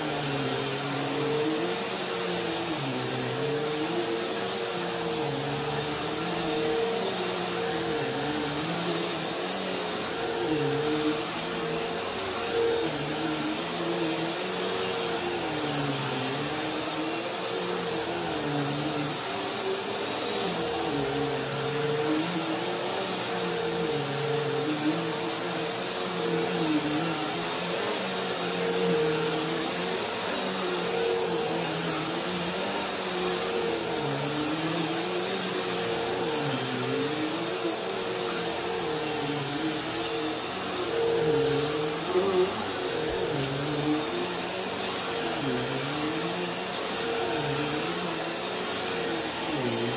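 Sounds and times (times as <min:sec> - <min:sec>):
vacuum cleaner on a rug: 0:00.0 - 0:49.9.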